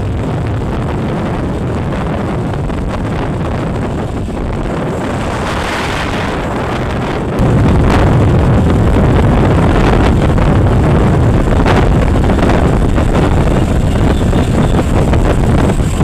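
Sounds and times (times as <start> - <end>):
motorcycle engine rumble: 0.0 - 16.0
wind buffeting microphone: 0.0 - 16.0.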